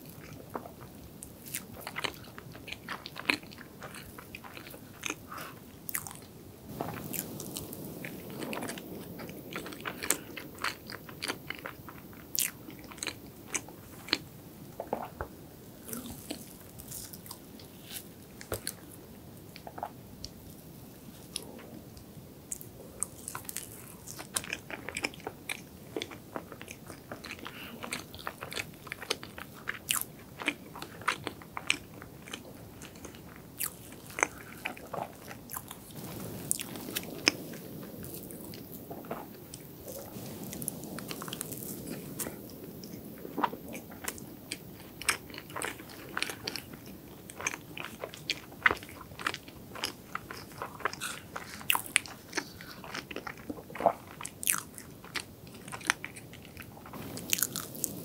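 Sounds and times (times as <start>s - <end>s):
chewing cake: 0.0s - 20.4s, 21.2s - 58.0s.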